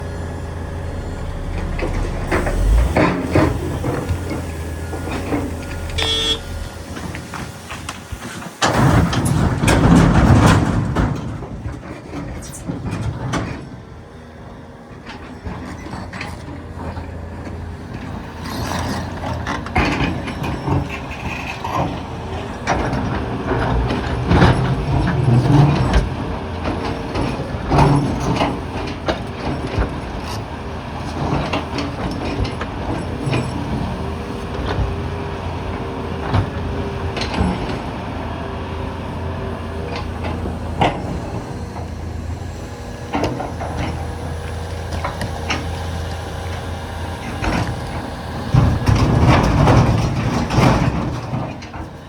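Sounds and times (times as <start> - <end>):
excavator diesel engine and hydraulics: 0.0 - 52.0.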